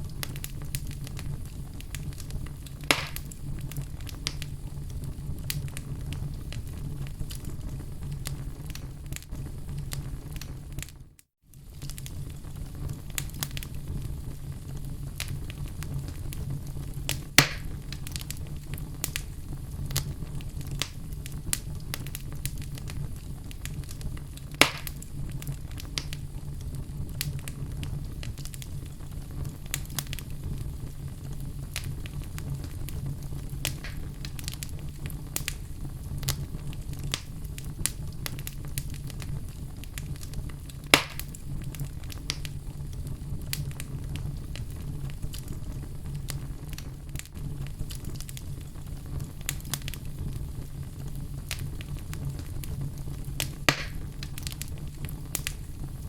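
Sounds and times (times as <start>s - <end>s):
fire popping: 0.0s - 56.0s
fireplace fire crackling: 0.0s - 56.0s.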